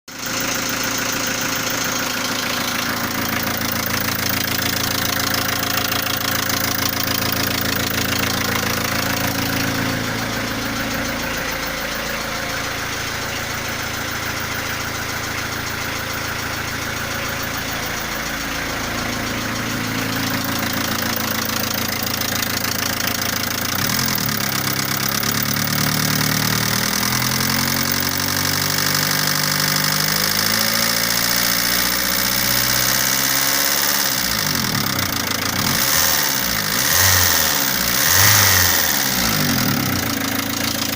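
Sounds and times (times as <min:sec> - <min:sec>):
diesel engine running: 0:00.1 - 0:40.9.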